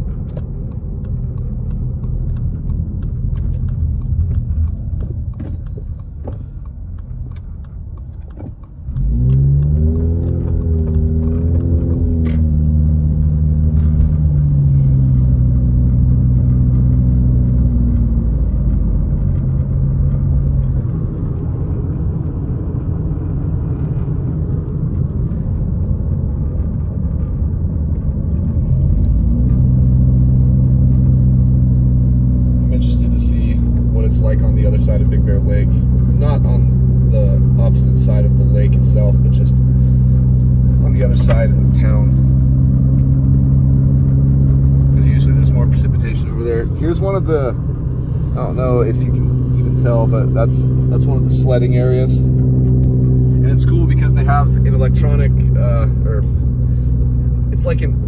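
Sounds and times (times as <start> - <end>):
car rumble on wet pavement: 0.0 - 58.0
humming engine note: 0.0 - 58.0.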